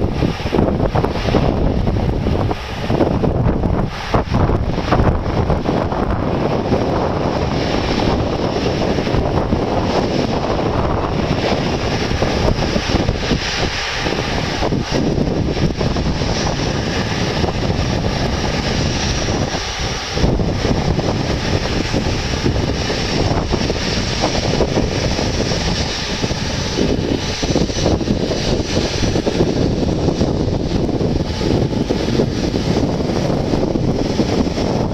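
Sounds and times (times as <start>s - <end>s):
jet engine noise: 0.0s - 34.9s
wind buffeting microphone: 0.0s - 34.9s.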